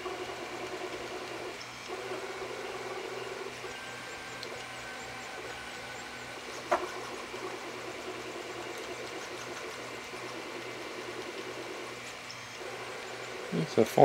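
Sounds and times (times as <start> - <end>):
printer chirp: 0.0 - 14.0
stepper motors whirring: 0.0 - 14.0.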